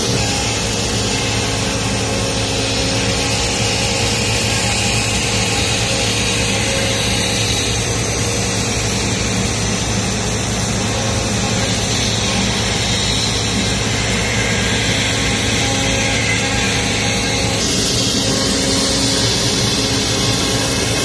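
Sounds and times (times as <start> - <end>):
router cutting wood: 0.0 - 21.0.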